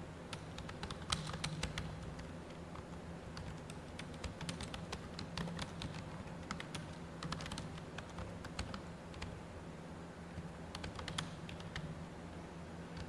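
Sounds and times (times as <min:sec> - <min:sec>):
steady low hum: 0:00.0 - 0:13.0
computer keyboard typing: 0:00.3 - 0:09.4, 0:10.4 - 0:11.9.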